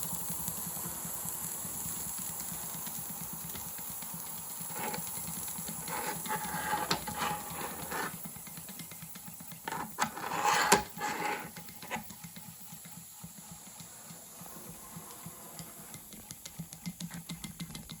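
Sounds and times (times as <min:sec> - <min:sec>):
model steam engine ticking: 0:00.0 - 0:10.0, 0:10.9 - 0:18.0
steam hissing: 0:00.0 - 0:17.4.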